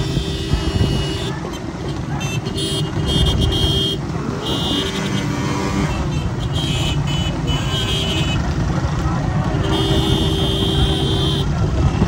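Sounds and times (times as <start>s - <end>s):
small motorcycle engines rumbling: 0.0s - 12.0s.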